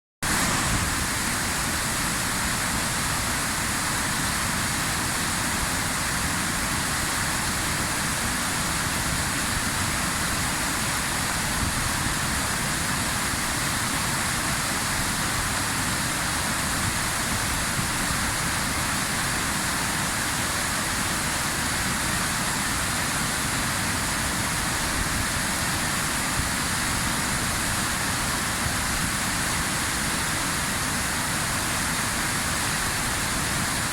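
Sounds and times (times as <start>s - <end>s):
waterfall crashing: 0.2s - 33.9s.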